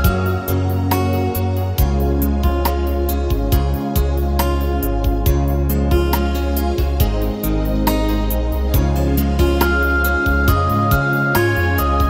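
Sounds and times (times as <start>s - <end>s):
instrumental pop backing track: 0.0s - 12.0s.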